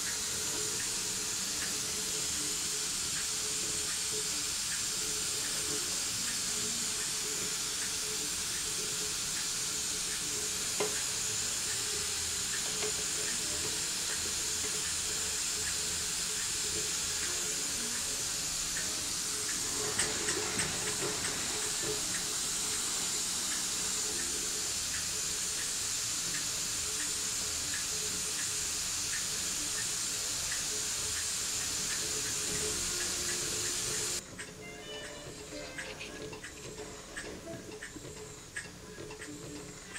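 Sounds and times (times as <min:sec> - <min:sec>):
steam hiss: 0:00.0 - 0:39.9.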